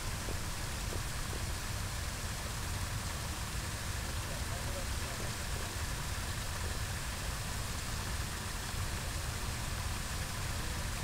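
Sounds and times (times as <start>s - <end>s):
water rushing through spillway: 0.0s - 11.0s.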